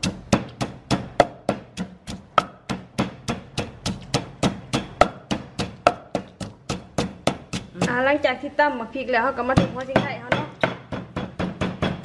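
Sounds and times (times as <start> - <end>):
pestle pounding in a mortar: 0.0 - 8.5, 9.4 - 12.0.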